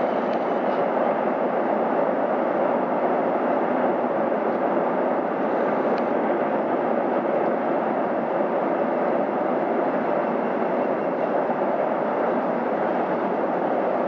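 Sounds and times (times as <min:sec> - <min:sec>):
distant freight train rumble: 0:00.0 - 0:14.0.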